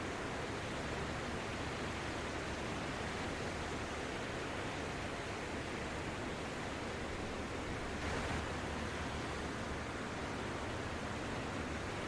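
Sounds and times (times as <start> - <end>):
sea waves washing ashore: 0.0 - 12.0.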